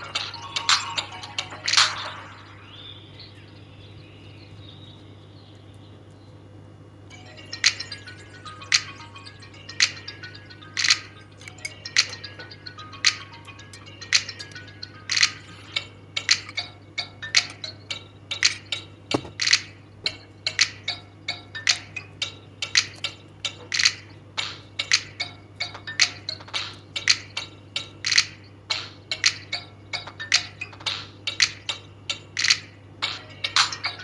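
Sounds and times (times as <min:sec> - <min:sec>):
clicking percussive music: 0:00.0 - 0:02.2, 0:07.6 - 0:10.0, 0:10.7 - 0:34.0
low steady hum: 0:00.0 - 0:34.0.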